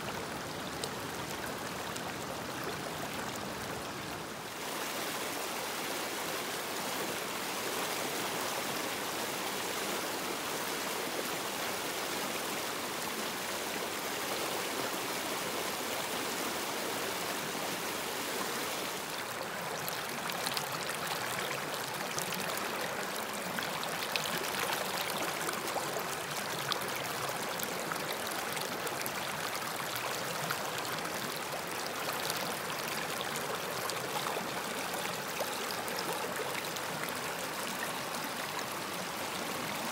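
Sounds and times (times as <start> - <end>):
river water rushing: 0.1 - 39.9.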